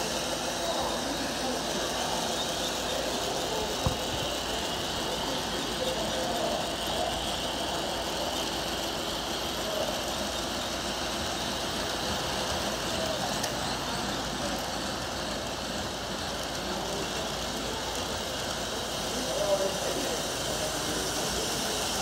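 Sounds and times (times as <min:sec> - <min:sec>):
model trains running on track: 0:00.0 - 0:22.0
voices murmuring: 0:00.0 - 0:22.0.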